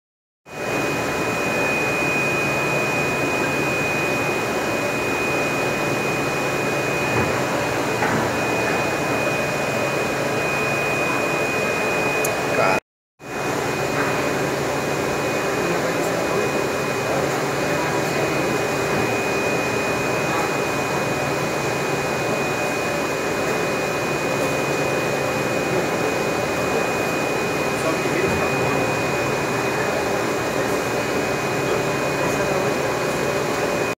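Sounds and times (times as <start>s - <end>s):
high whine: 0.5s - 34.0s.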